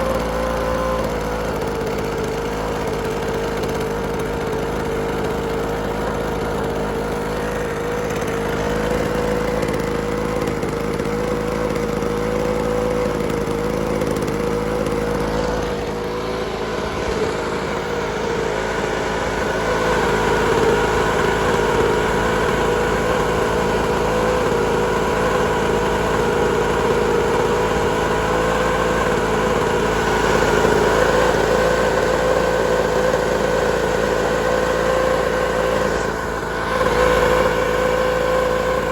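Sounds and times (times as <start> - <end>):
blower vac engine with fan whine: 0.0 - 38.9.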